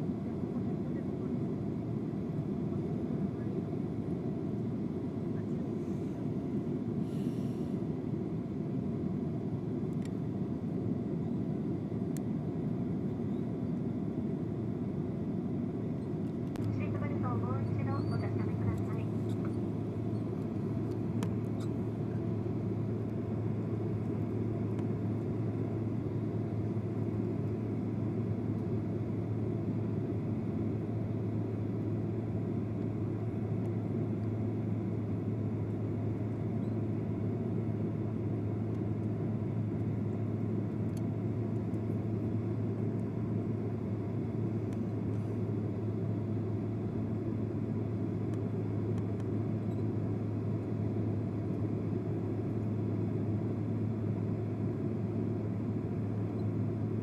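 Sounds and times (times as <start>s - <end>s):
airliner cabin engine rumble: 0.0s - 57.0s
constant low hum: 0.0s - 57.0s.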